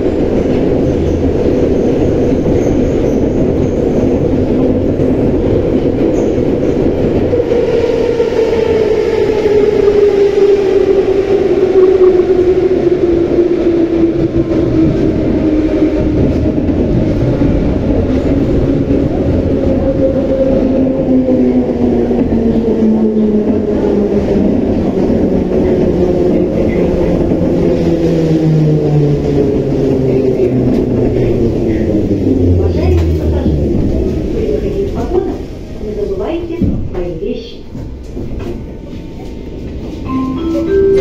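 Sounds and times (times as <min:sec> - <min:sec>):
heavy rumble of running train: 0:00.0 - 0:41.0.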